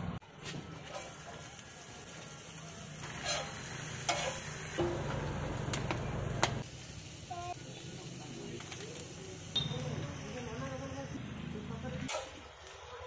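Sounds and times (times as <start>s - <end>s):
food sizzling in a wok: 0.9s - 13.0s.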